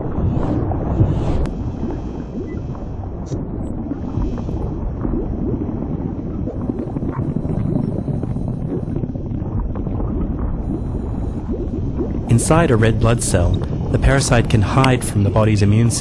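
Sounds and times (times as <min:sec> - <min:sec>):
low rumbling ambient drone: 0:00.0 - 0:16.0.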